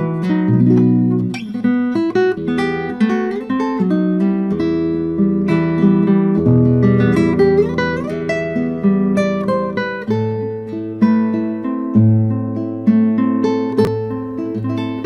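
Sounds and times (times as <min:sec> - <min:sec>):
acoustic guitar tune: 0:00.0 - 0:15.0.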